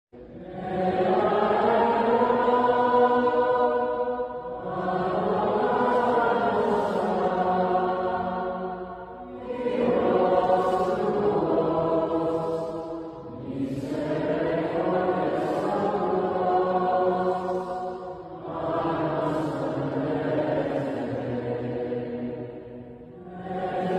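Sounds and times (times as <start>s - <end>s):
hymn sung in chant style: 0.2s - 23.9s.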